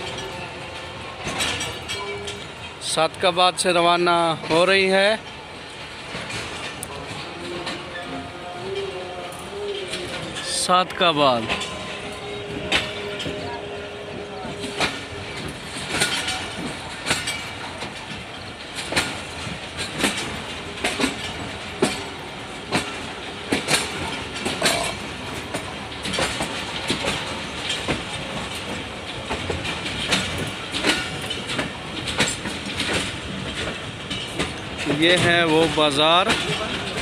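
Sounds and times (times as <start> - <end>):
train wheels rumbling on rails: 0.0 - 37.0
wheels clacking over rail joints: 0.0 - 37.0.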